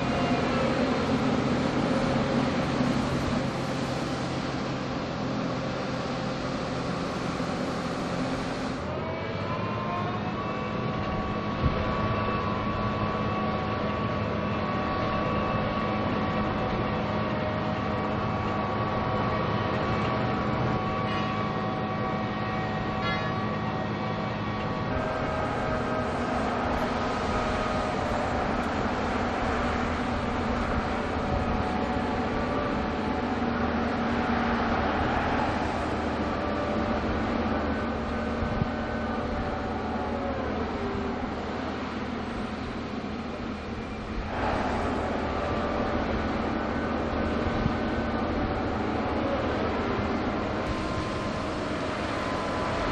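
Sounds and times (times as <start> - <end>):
diesel crane engine running: 0.0 - 52.9.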